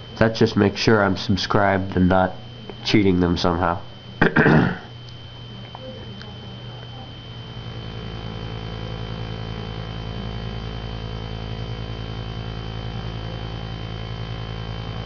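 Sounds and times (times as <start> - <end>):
faint high-pitched whine: 0.0 - 15.0
low mechanical hum: 0.0 - 15.0.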